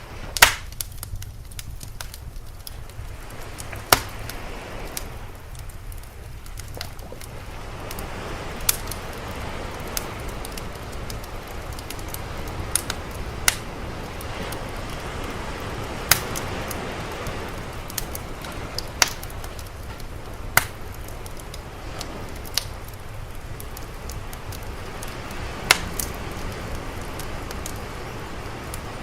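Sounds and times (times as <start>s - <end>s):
sea waves: 0.0s - 29.0s
wood fire crackling and popping: 0.0s - 29.0s.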